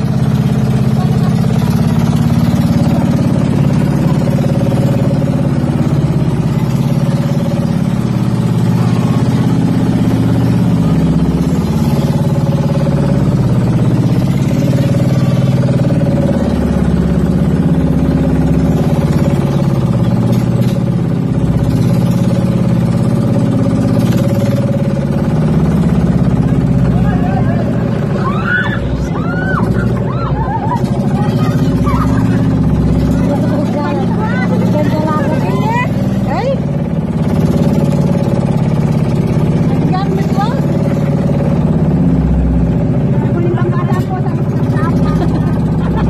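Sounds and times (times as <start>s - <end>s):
boat engine running: 0.0s - 46.0s.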